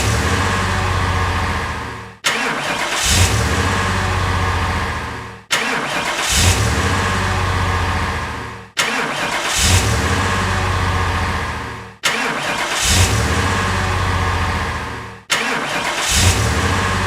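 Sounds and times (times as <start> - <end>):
car engine starting: 0.0 - 17.0.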